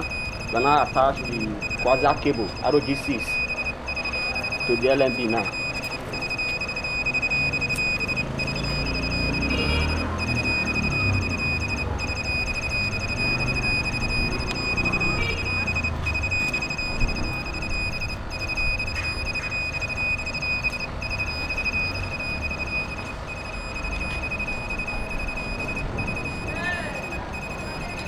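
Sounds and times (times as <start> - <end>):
high-pitched meter beeping: 0.0 - 28.0.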